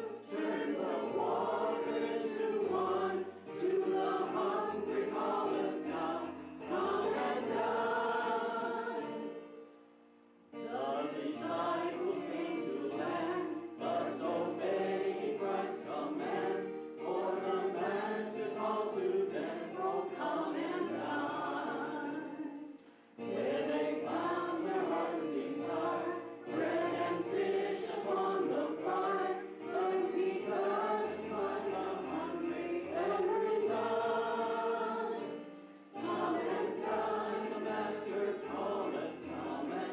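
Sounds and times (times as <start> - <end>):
congregation singing a hymn: 0.0 - 9.8, 10.5 - 39.9.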